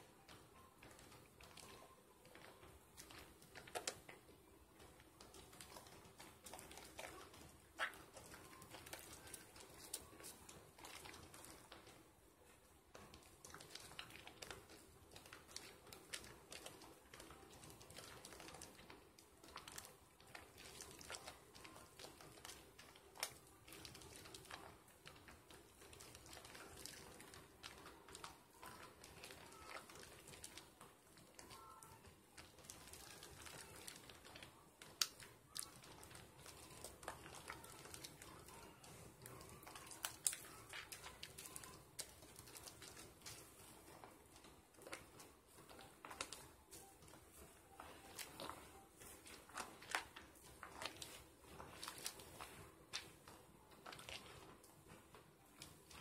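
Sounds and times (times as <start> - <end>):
soap lather squishing: 0.2 - 12.2, 12.9 - 56.0.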